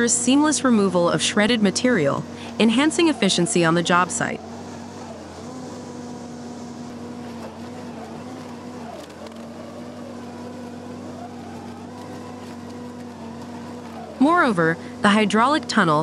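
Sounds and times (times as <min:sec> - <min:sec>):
stump shredder droning: 0:00.0 - 0:16.0.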